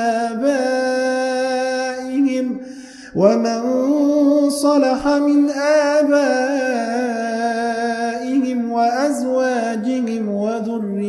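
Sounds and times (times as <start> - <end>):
man chanting melodic recitation: 0.0 - 11.0.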